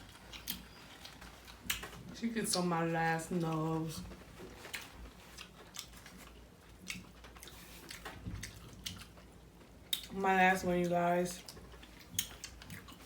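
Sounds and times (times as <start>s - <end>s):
person chewing with wet clicks: 0.0s - 2.7s, 3.3s - 10.2s, 10.8s - 13.0s.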